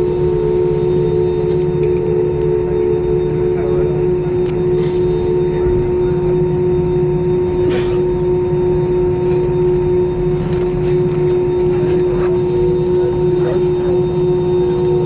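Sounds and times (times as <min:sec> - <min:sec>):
cabin air system hum: 0:00.0 - 0:15.0
jet engines idling: 0:00.0 - 0:15.0.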